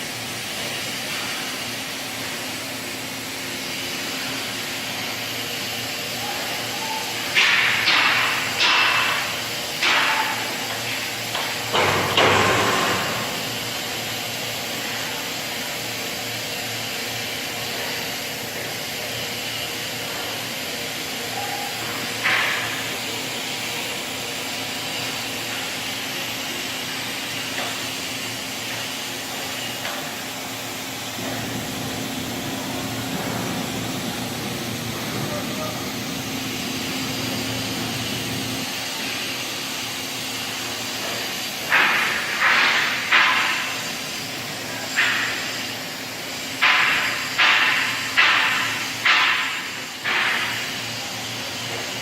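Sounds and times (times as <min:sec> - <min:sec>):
workshop machinery hum: 0:00.0 - 0:52.0.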